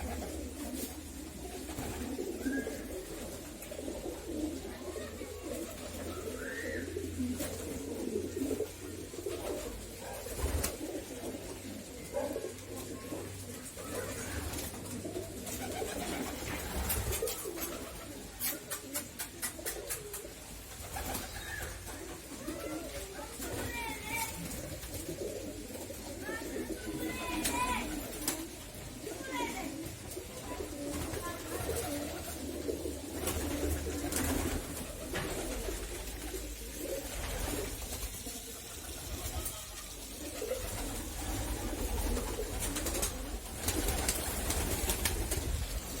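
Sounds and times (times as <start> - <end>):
pigeons cooing: 0.0 - 46.0.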